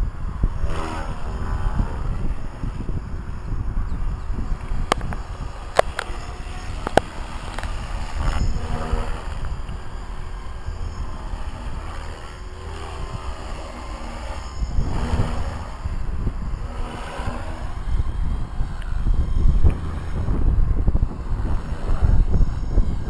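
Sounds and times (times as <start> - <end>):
helicopter rotor blades whirring: 0.0 - 23.0
wind rumbling on microphone: 0.0 - 23.0.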